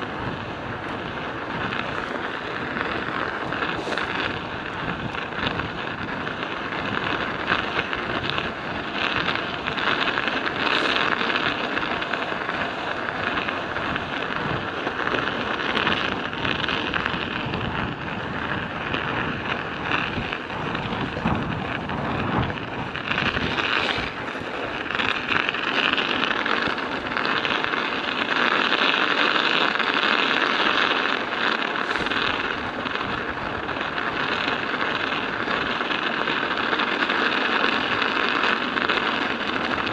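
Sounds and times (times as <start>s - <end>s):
wind buffeting microphone: 0.0s - 36.9s, 37.5s - 39.9s
studded bicycle tyres crunching on ice: 0.0s - 39.9s.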